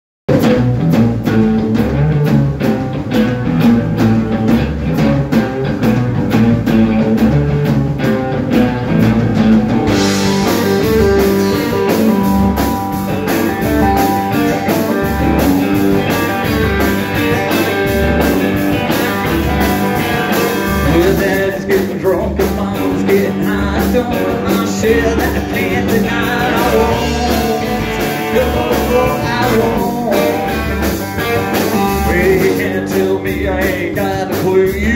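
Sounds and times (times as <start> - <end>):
bass guitar: 0.3 - 34.9
drum kit beat: 0.3 - 34.9
electric guitars: 0.3 - 34.9.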